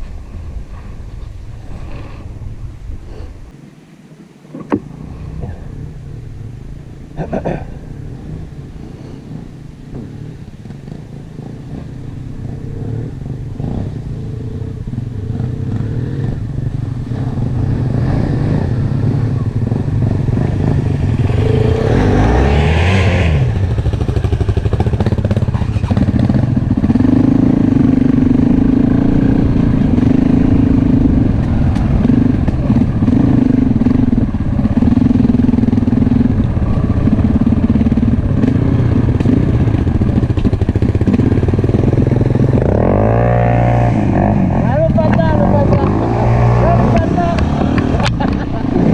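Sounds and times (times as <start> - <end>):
motorcycle engine running: 5.3 - 48.9.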